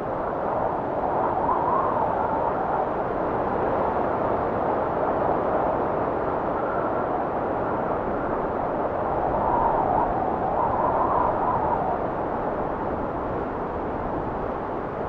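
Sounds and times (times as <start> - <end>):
faint wavering wind whistle: 0.0 - 15.0.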